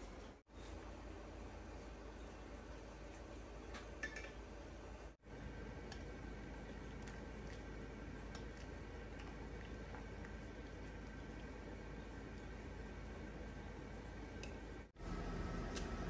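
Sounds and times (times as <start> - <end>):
water boiling in a pot: 1.1 - 16.0.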